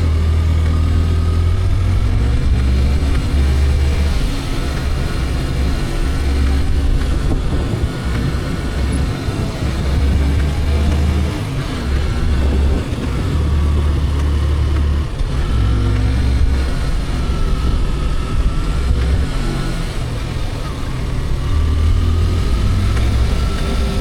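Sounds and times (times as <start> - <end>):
motorcycle engine running: 0.0 - 24.0
wind rumble on microphone: 0.0 - 24.0.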